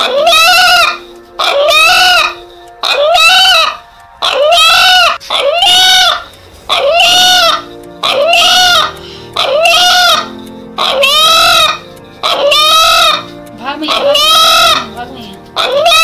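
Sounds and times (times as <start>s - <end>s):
rooster crowing: 0.0s - 13.3s.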